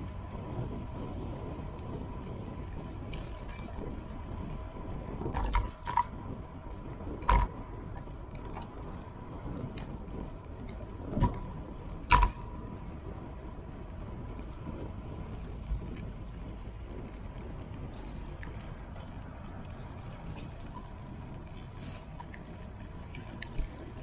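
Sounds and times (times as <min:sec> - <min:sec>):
wind and road rumble: 0:00.0 - 0:24.0.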